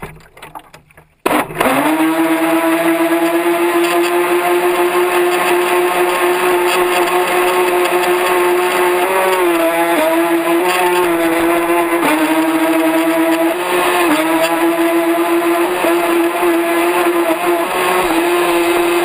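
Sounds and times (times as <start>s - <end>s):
model boat motor running: 1.3s - 19.0s.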